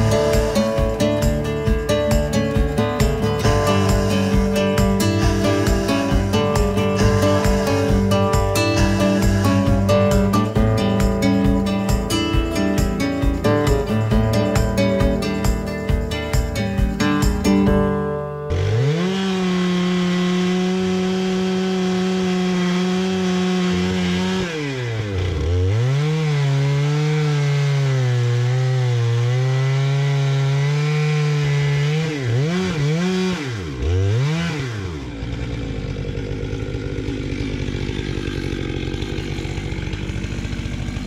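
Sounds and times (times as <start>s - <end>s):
chainsaw cutting through log: 0.0s - 41.0s.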